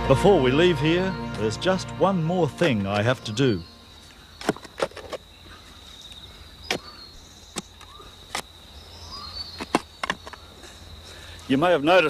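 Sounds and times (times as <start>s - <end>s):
high insect trill: 0.1s - 12.0s.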